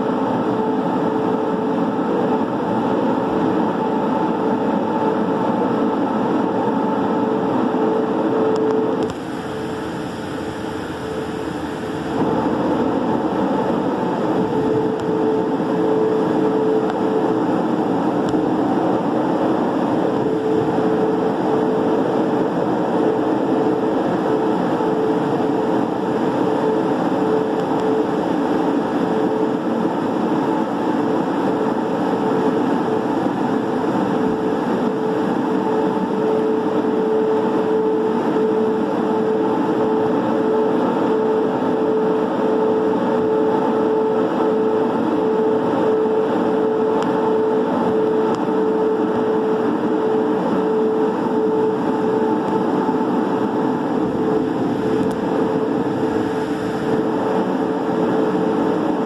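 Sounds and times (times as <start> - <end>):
constant machine hum: 0.0 - 59.0.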